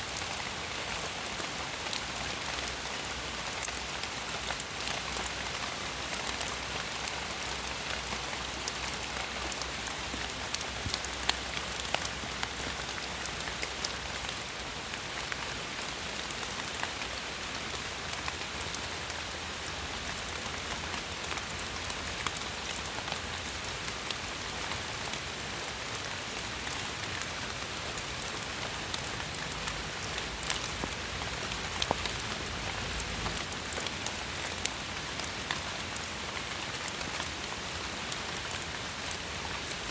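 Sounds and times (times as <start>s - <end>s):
rain hissing on foliage: 0.0s - 39.9s
raindrops ticking on leaves: 0.0s - 39.9s.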